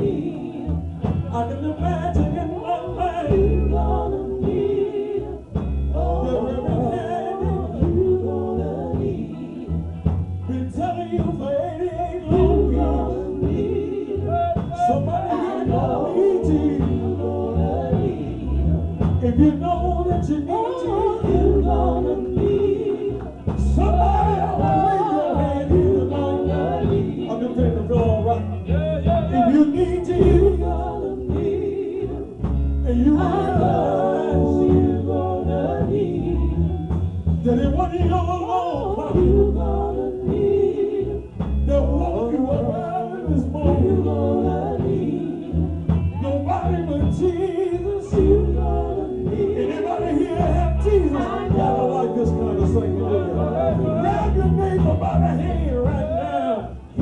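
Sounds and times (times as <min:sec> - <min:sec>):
gospel singing: 0:00.0 - 0:57.0
instrumental backing with bass: 0:00.0 - 0:57.0.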